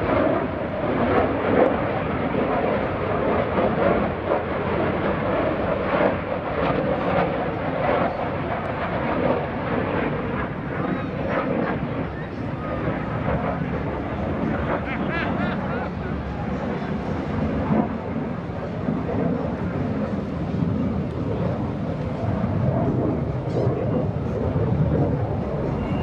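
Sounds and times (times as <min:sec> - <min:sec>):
loud jet engine noise: 0:00.0 - 0:26.0.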